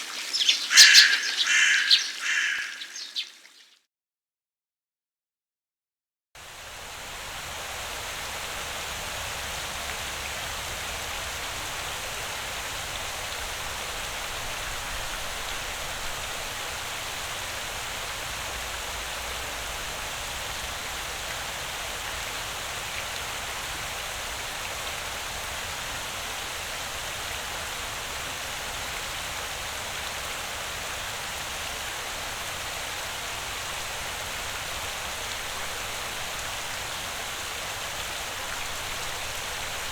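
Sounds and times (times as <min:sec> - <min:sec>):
water fountain splashing: 0:00.0 - 0:03.7, 0:06.5 - 0:39.9.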